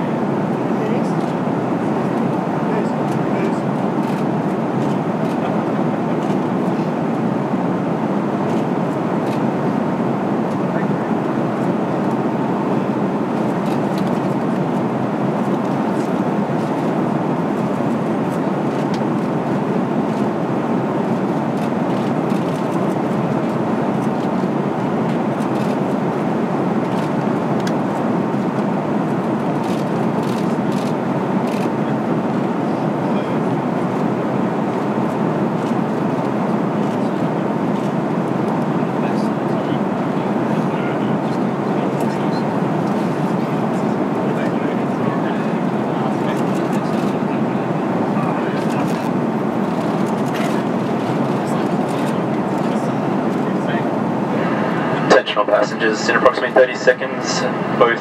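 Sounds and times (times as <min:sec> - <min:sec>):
aircraft cabin drone: 0:00.0 - 0:58.0.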